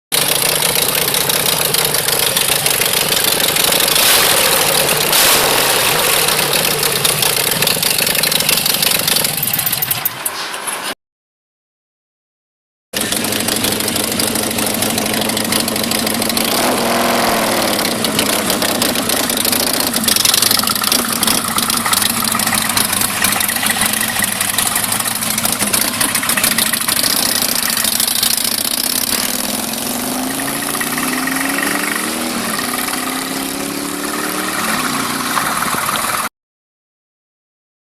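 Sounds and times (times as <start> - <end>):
motorcycle engine idling and revving: 0.1 - 10.5, 13.0 - 36.3.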